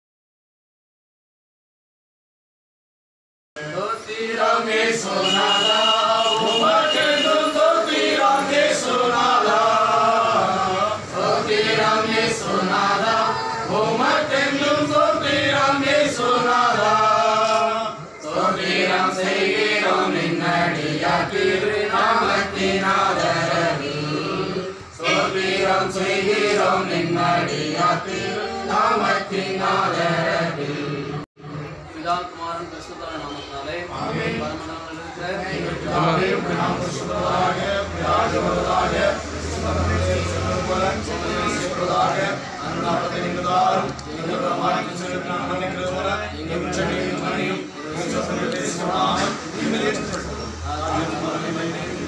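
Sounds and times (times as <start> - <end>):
voices singing a chant: 3.6 - 32.9, 33.6 - 52.0.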